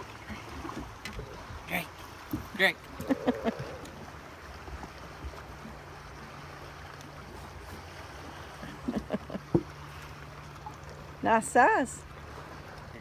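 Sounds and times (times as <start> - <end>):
water washing around boat: 0.0 - 13.0.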